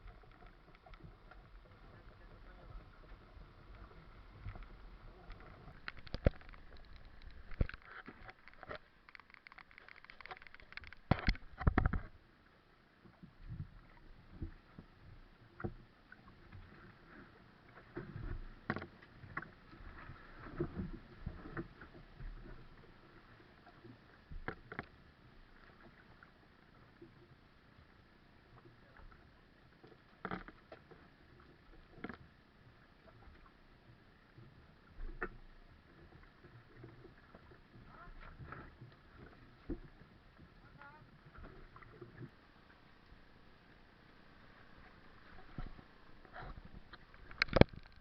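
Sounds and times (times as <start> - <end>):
water sloshing against boat: 0.0 - 48.0.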